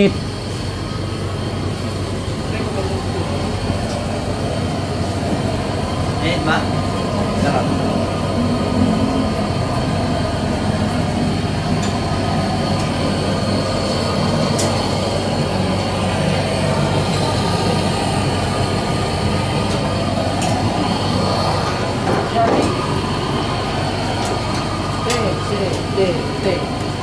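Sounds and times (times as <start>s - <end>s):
mechanical drone with low hum: 0.0s - 27.0s.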